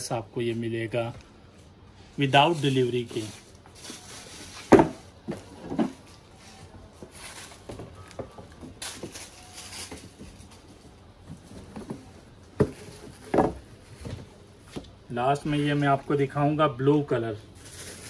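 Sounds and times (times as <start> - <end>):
tissue paper and plastic rustling: 0.0 - 14.3, 17.2 - 18.0.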